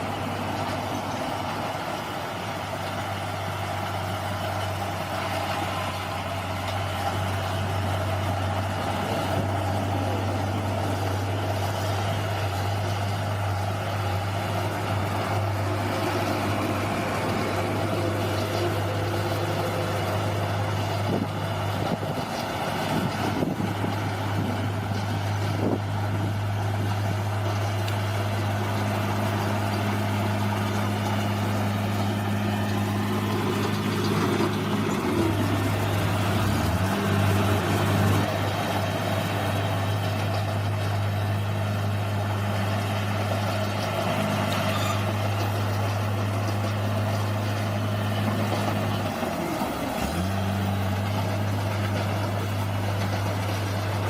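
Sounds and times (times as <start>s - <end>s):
bulldozer diesel engine running: 0.0s - 54.0s
machinery noise: 0.0s - 54.0s.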